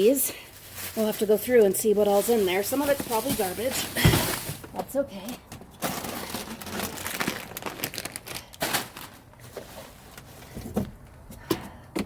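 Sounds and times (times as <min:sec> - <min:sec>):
plastic bag rustling: 0:00.0 - 0:05.0, 0:05.6 - 0:10.8.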